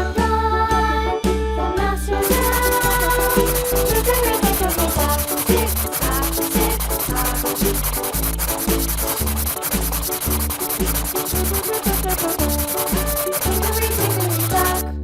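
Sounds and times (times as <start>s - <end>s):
children's background music: 0.0s - 15.0s
coloring strokes rubbing on paper: 2.2s - 14.8s.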